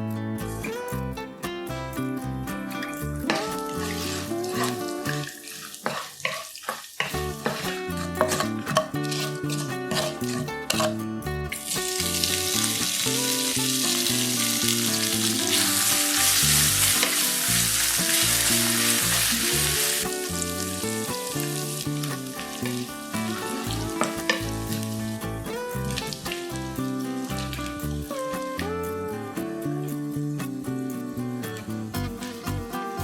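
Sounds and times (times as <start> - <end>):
background music: 0.0 - 6.2, 7.0 - 33.0
food sizzling in hot oil: 2.7 - 32.8.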